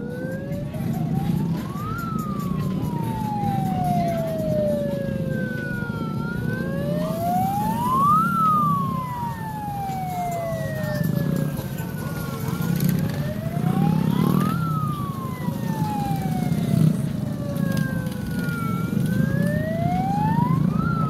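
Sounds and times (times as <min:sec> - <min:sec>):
higher siren gliding: 0:00.0 - 0:21.0
siren wailing: 0:00.0 - 0:21.0.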